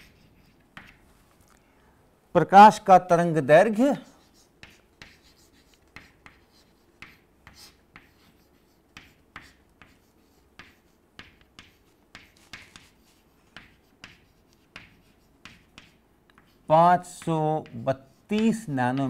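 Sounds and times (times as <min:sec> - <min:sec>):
chalk tapping and scraping: 0:00.0 - 0:01.2, 0:03.9 - 0:19.0.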